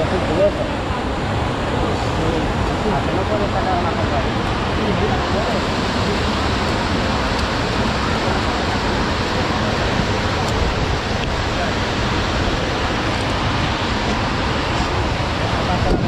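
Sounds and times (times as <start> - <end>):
river cascades rushing: 0.0 - 16.0
wind buffeting microphone: 0.0 - 16.0.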